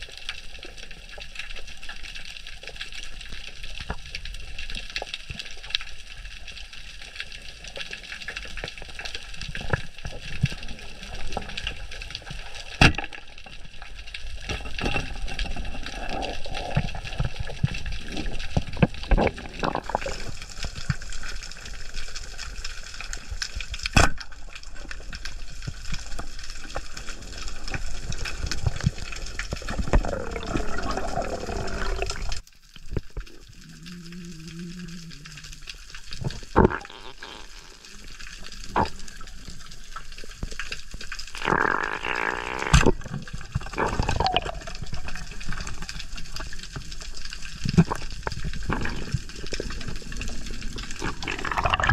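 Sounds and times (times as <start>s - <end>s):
crackle of small clicks: 0.0s - 51.9s
underwater water noise: 0.0s - 51.9s.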